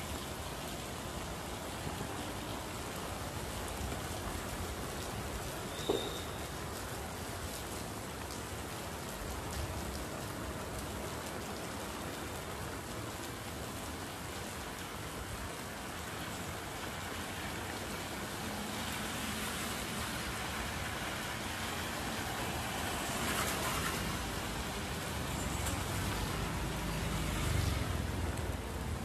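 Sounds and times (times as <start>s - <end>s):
rain on wet street: 0.0s - 29.0s
tyres hissing on wet road: 0.0s - 29.0s.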